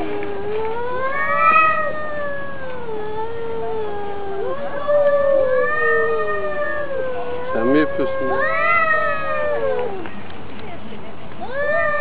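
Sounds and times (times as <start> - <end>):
cats yowling: 0.0 - 10.2, 11.4 - 12.0.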